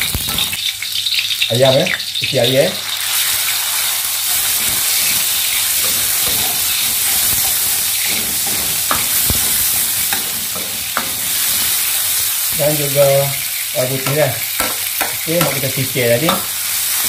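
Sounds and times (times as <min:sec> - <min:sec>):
chicken sizzling in oil: 0:00.0 - 0:17.0
spatula scraping a wok: 0:03.2 - 0:17.0.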